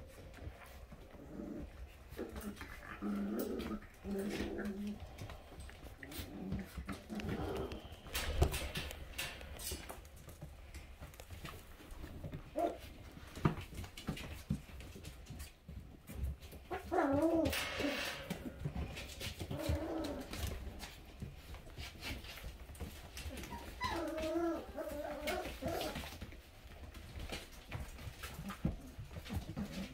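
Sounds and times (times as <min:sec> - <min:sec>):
puppies whining: 0:00.0 - 0:13.6, 0:16.1 - 0:29.9.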